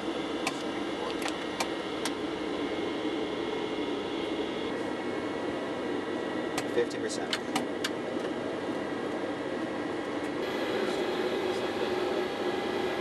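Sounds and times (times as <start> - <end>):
aircraft cabin hum: 0.0 - 13.0.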